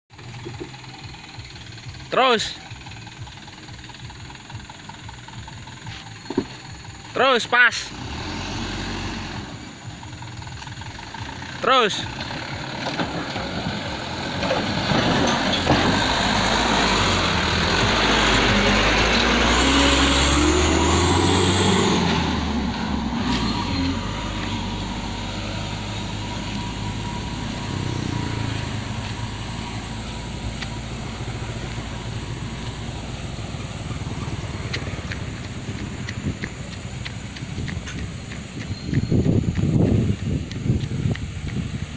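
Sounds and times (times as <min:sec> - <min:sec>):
truck diesel engine pulling away: 0:00.1 - 0:41.9.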